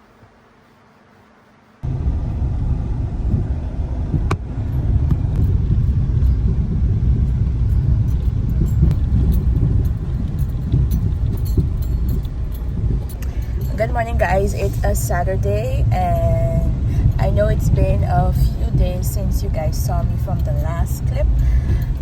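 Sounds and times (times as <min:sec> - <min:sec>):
car road noise rumble: 0:01.8 - 0:22.0.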